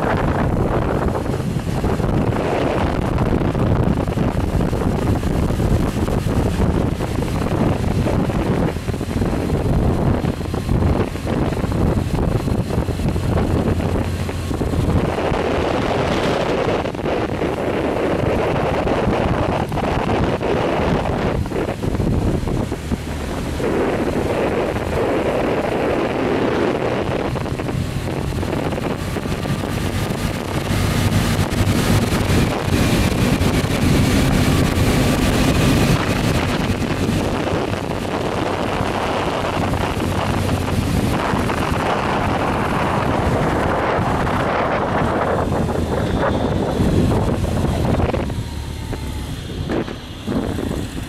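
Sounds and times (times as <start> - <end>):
motorcycle engine running: 0.0 - 51.0
wind buffeting microphone: 0.0 - 51.0.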